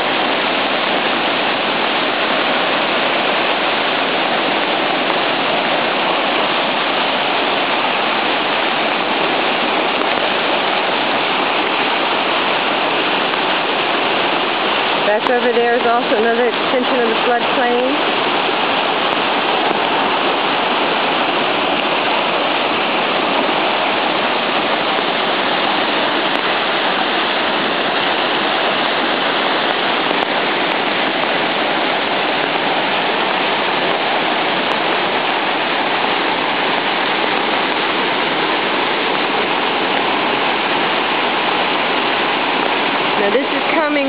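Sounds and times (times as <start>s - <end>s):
floodwater rushing: 0.0s - 44.0s.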